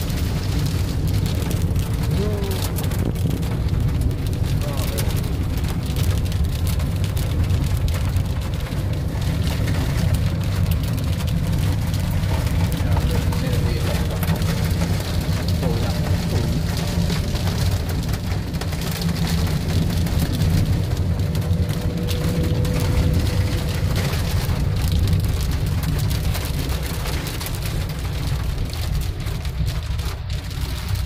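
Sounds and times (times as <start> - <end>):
car driving on a wet road: 0.0 - 31.0
rain pattering on a car: 0.0 - 31.0.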